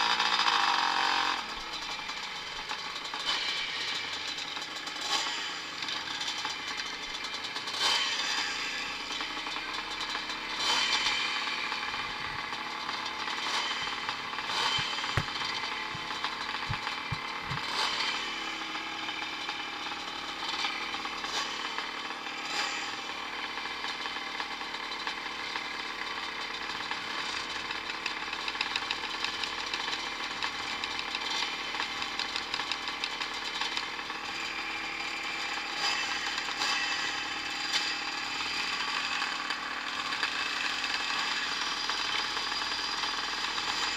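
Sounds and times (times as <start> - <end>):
motocross bikes revving: 0.0 - 43.9.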